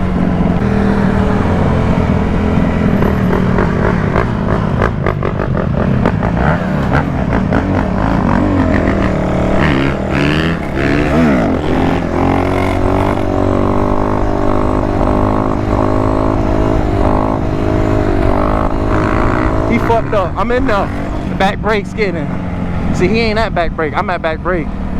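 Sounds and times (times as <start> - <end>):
dirt bike engines revving: 0.0 - 24.9.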